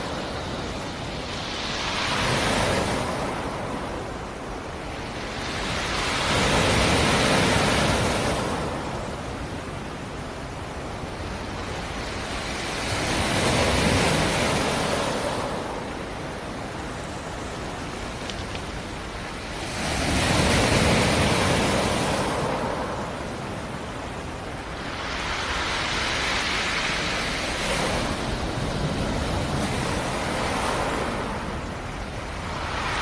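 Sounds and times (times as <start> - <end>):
waves breaking on shore: 0.0 - 33.0.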